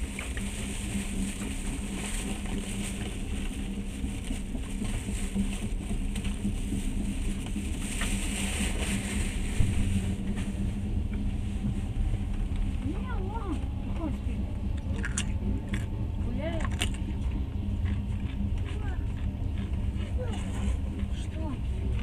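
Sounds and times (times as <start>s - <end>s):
steady hum: 0.0s - 22.0s
train rumble and hiss: 0.0s - 22.0s.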